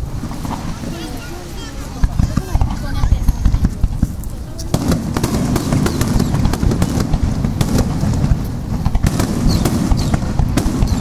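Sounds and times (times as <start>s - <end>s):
fireworks bangs and crackles: 0.0s - 11.0s
low rumble of shell bursts: 1.9s - 11.0s.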